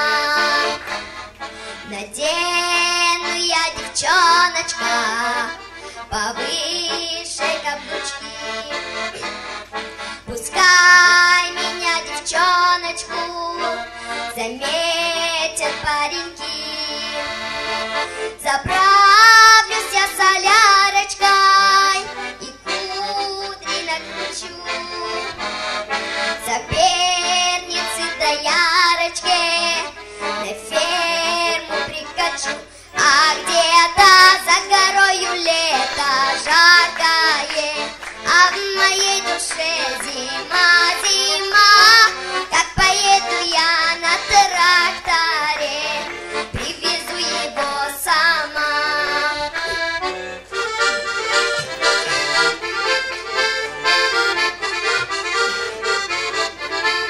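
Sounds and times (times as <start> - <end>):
girl singing: 0.0 - 0.9, 1.8 - 9.3, 10.2 - 17.6, 18.3 - 25.4, 26.4 - 49.8
accordion playing chords: 0.0 - 57.0.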